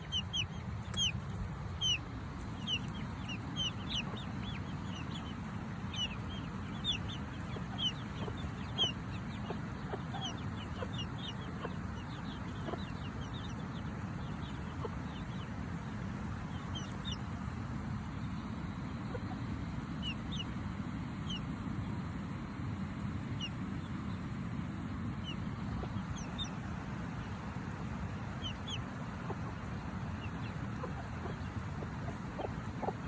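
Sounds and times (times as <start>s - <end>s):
hen clucking: 0.0s - 17.6s, 18.7s - 21.4s, 25.1s - 33.0s
chicks peeping: 0.0s - 21.6s, 22.8s - 33.0s
low rumbling noise: 0.0s - 33.0s.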